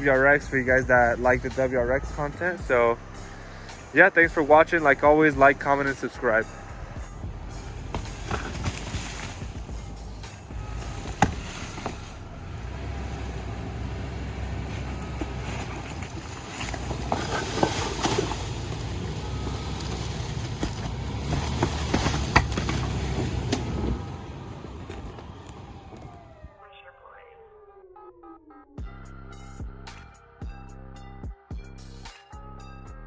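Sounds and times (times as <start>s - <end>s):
vehicle engine rumbling: 0.0s - 28.4s.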